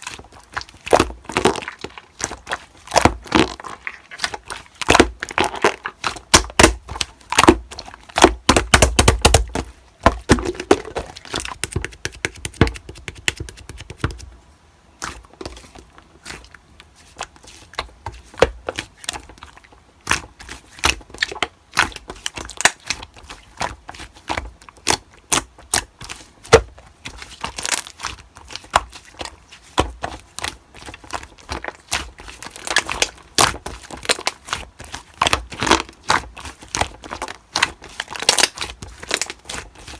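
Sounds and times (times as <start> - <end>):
slime crackling and popping: 0.1 - 14.2, 20.0 - 39.9.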